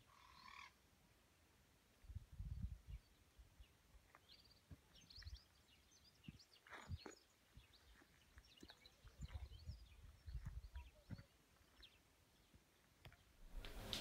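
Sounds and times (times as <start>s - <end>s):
small birds chirping: 0.0s - 0.8s, 2.0s - 13.4s.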